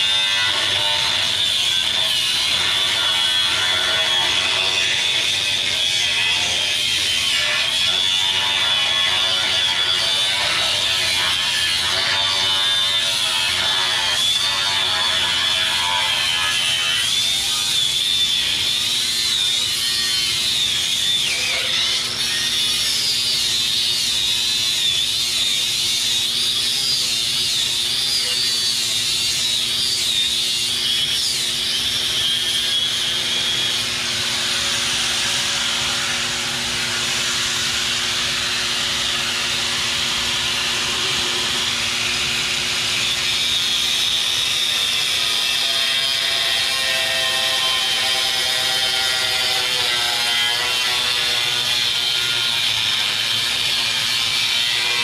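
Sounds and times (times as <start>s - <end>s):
angle grinder cutting steel: 0.0s - 55.0s.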